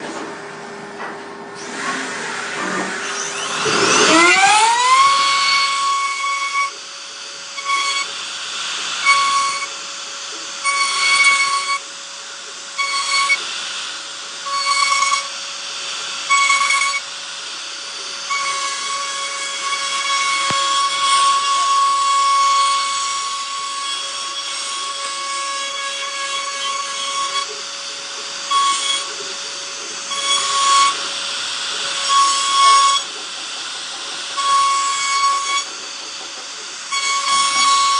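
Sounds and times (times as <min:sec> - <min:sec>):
router bit cutting noise: 0:01.6 - 0:37.9
router spindle whine: 0:01.6 - 0:37.9.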